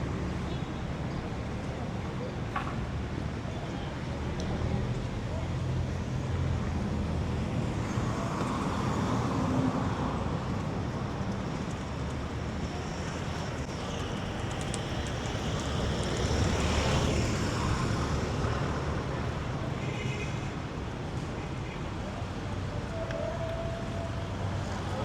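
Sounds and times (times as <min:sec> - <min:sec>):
street traffic: 0:00.0 - 0:25.0.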